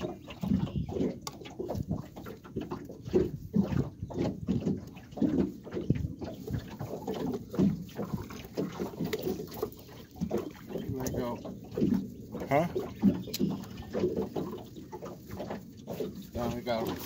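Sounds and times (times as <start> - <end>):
water slapping boat hull: 0.0 - 17.0
wind buffeting microphone: 0.0 - 17.0.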